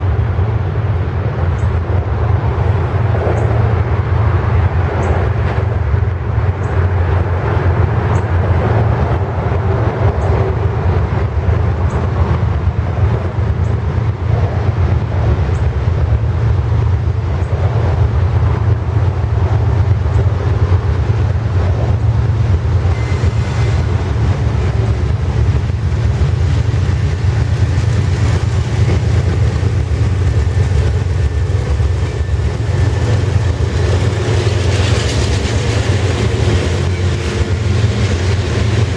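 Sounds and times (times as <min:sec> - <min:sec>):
diesel train rumbling: 0:00.0 - 0:38.9.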